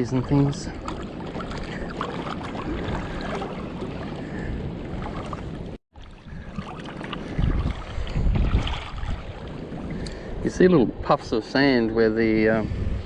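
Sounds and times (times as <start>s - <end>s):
water current over sand flats: 0.0s - 13.0s
wind buffeting microphone: 0.0s - 13.0s.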